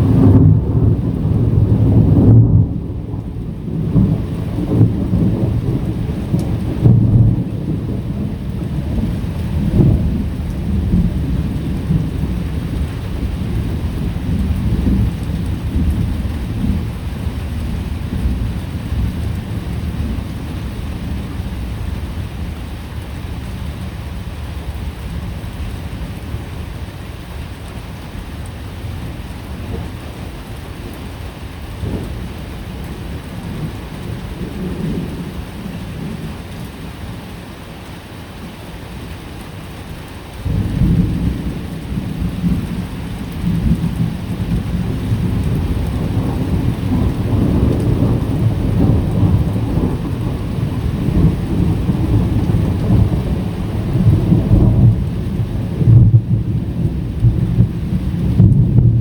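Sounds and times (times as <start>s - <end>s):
rumbling thunder: 0.0s - 26.4s, 31.7s - 36.4s, 40.4s - 59.0s
steady rain: 0.0s - 59.0s.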